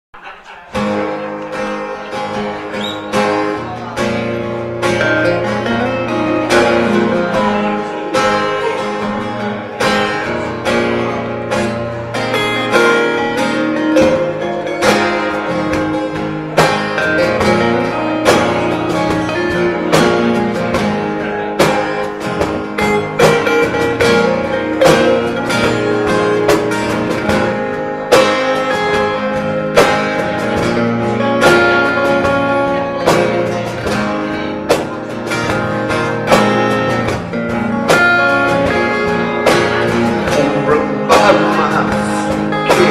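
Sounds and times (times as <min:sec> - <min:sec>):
guitar plucked and strummed: 0:00.2 - 0:42.9.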